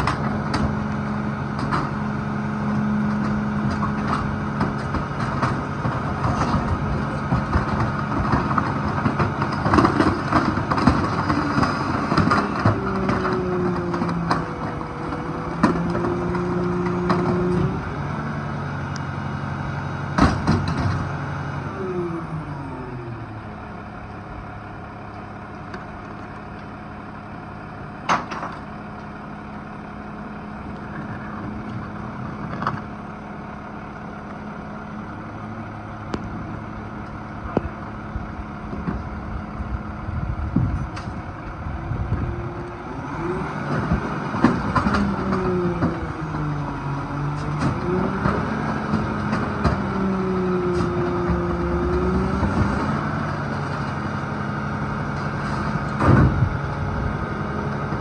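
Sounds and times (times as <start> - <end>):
garbage truck engine: 0.0 - 58.0
hydraulic packer: 0.0 - 58.0.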